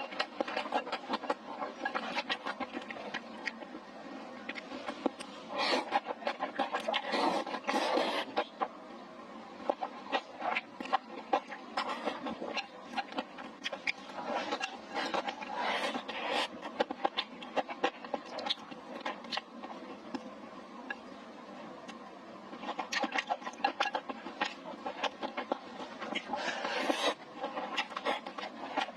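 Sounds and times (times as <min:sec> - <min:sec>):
chewing crunches and smacks: 0:00.0 - 0:03.8, 0:04.4 - 0:08.8, 0:09.6 - 0:21.1, 0:21.8 - 0:28.9.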